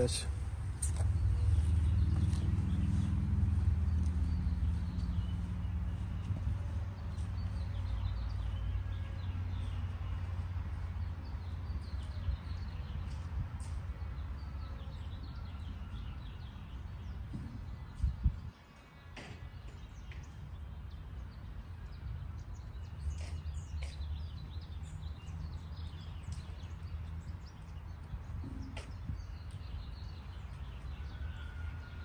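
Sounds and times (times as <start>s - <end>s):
small birds chirping: 0.0s - 31.5s.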